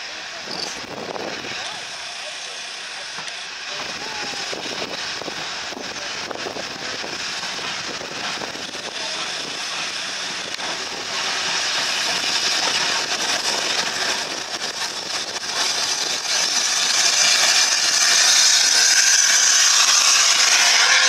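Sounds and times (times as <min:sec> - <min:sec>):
steam train passing: 0:00.0 - 0:21.0.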